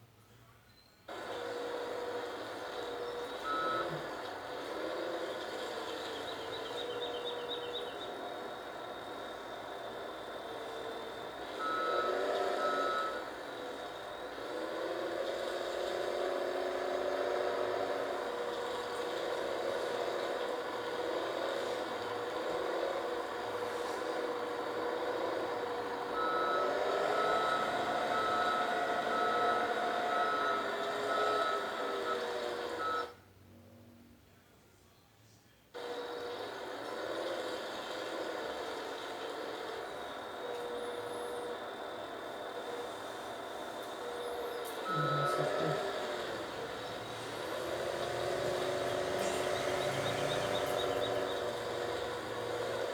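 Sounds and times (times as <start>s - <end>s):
reversing alarm beeping: 1.1s - 4.4s, 5.4s - 33.2s, 39.6s - 52.9s
heavy vehicle engine running: 1.1s - 33.2s, 35.8s - 52.9s.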